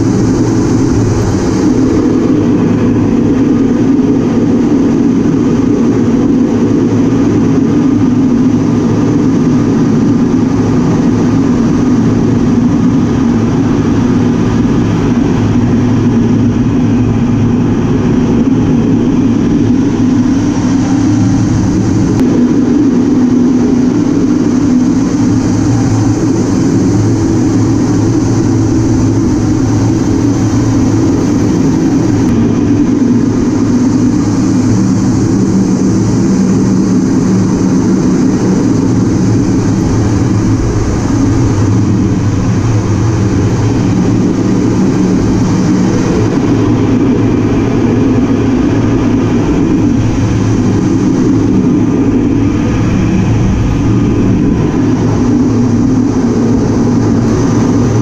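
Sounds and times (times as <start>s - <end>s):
airflow over canopy: 0.0s - 58.0s
jet engines low drone: 0.0s - 58.0s
thin high whine: 0.0s - 58.0s.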